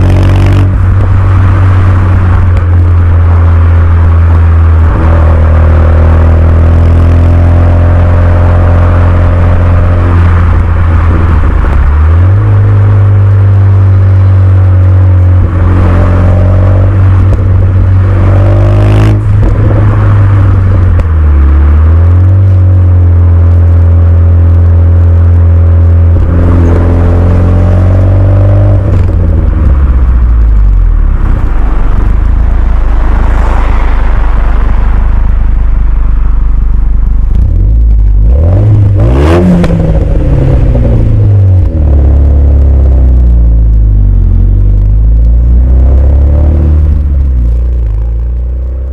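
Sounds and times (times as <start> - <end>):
loud car engine revving: 0.0 - 48.9.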